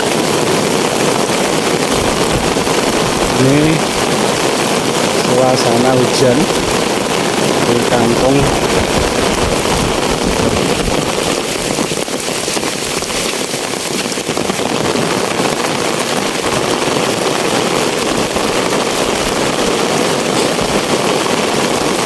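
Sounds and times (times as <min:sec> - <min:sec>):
rain pouring: 0:00.0 - 0:22.0.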